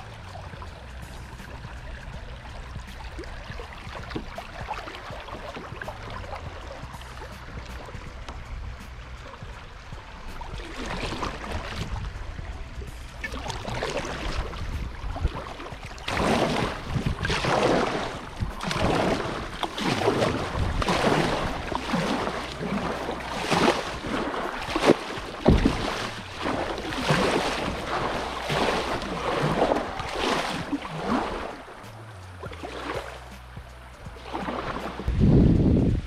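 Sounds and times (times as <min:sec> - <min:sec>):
kayak paddle splashing: 0:00.0 - 0:36.0.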